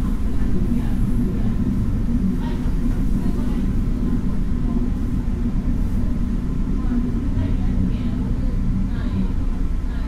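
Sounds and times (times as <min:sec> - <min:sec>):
diesel railcar engine rumble: 0:00.0 - 0:10.0.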